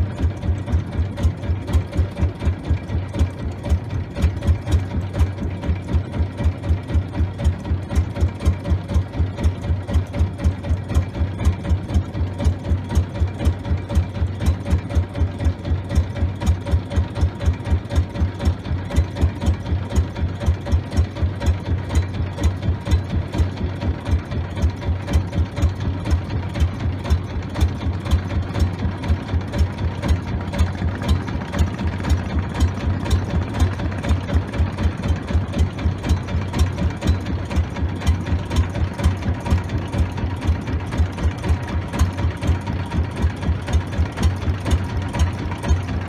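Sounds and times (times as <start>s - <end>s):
small boat engine running: 0.0s - 46.0s.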